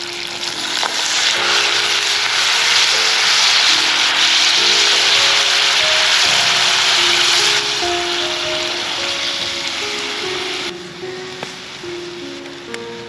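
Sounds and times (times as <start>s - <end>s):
chicken sizzling in a pot: 0.0s - 12.8s.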